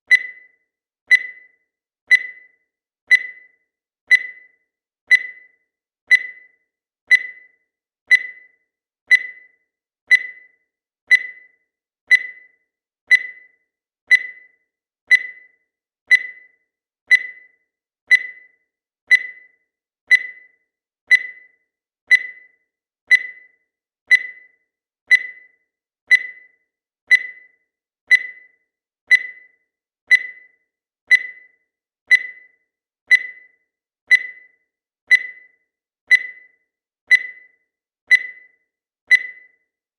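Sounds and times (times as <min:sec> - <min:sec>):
countdown timer beeping: 0:00.1 - 0:39.8.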